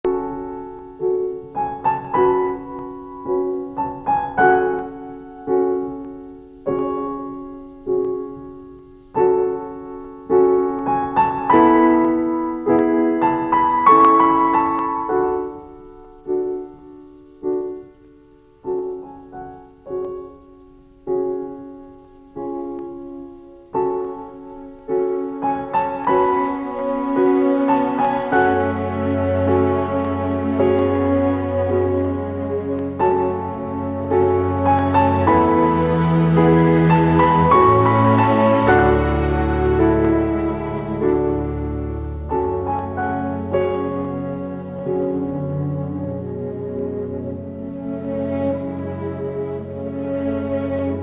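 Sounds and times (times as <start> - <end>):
solo piano music: 0.0 - 51.0.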